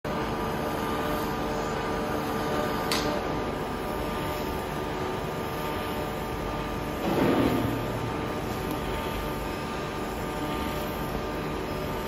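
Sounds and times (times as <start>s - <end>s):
constant hum: 0.1s - 12.0s
welding arc hiss: 0.1s - 12.0s.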